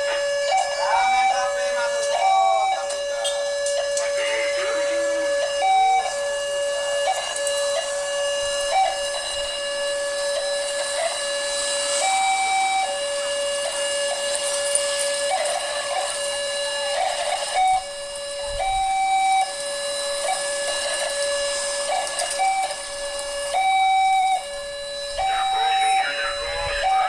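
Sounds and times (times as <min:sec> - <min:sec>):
level crossing warning siren: 0:00.0 - 0:27.0.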